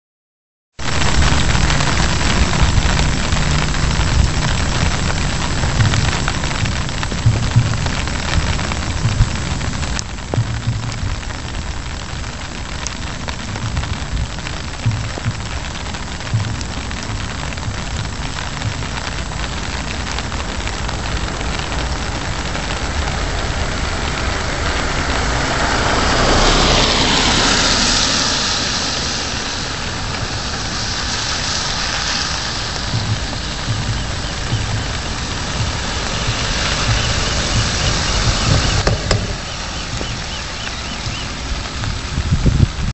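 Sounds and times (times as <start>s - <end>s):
steady rain: 0.7s - 42.9s
tyres hissing on wet road: 0.8s - 42.9s.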